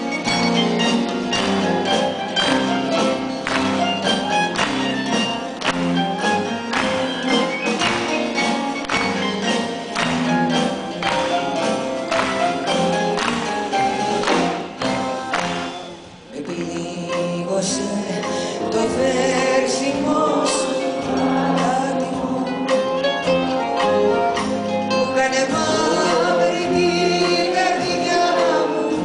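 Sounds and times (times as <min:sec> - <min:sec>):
live band playing instrumental: 0:00.0 - 0:29.0.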